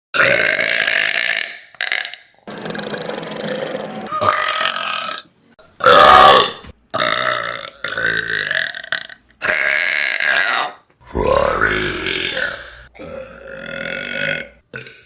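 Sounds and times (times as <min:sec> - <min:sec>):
loud human burps: 0:00.2 - 0:15.0.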